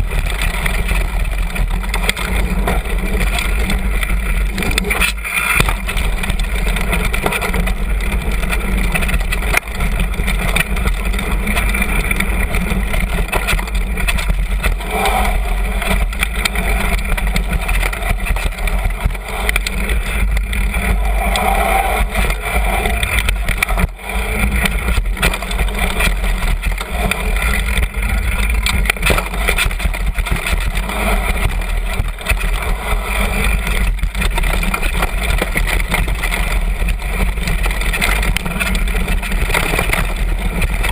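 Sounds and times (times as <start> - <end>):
bike knocks and jolts: 0.0 - 40.9
mountain bike tyre rolling on dirt: 0.0 - 40.9.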